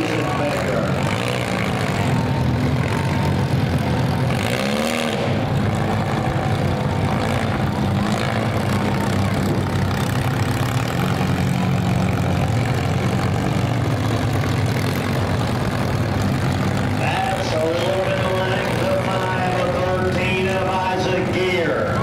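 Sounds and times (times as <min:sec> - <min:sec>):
car engines running: 0:00.0 - 0:22.0
engine revving: 0:00.0 - 0:22.0.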